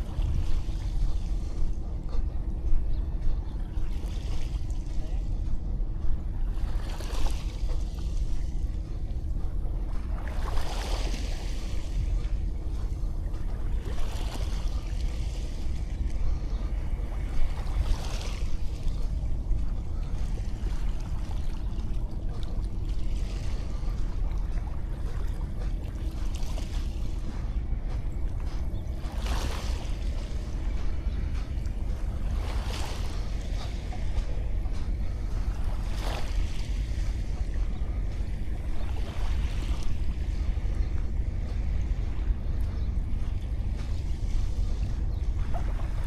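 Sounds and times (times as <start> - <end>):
small waves washing on beach: 0.0 - 46.0
wind rumble on microphone: 0.0 - 46.0.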